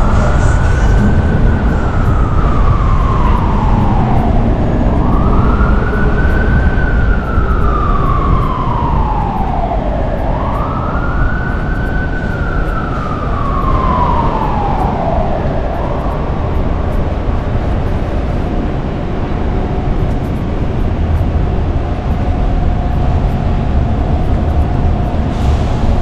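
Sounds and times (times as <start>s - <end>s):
emergency siren wailing: 0.0s - 26.0s
low rumble: 0.0s - 26.0s.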